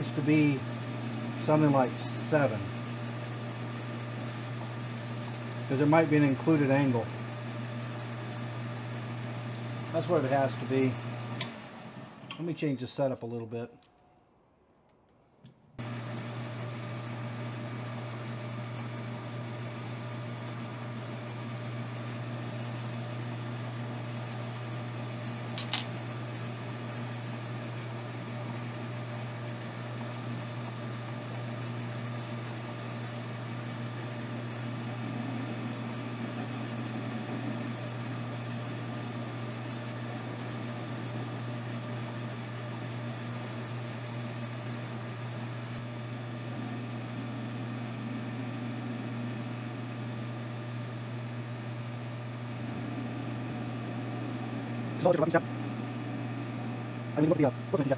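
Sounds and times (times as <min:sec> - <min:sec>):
metal lathe humming: 0:00.0 - 0:12.4, 0:15.8 - 0:57.9.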